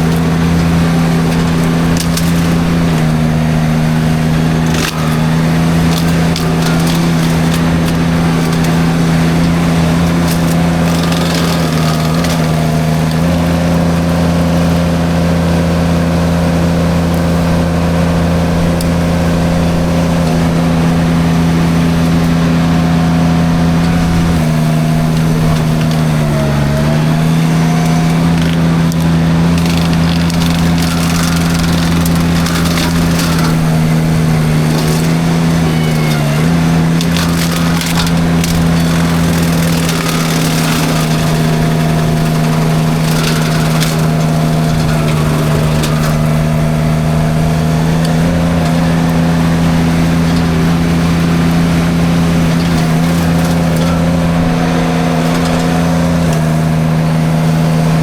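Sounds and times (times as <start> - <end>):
mulcher chewing through brush: 0.0 - 58.0
skid steer engine running: 0.0 - 58.0
wood cracking and splintering: 0.0 - 58.0.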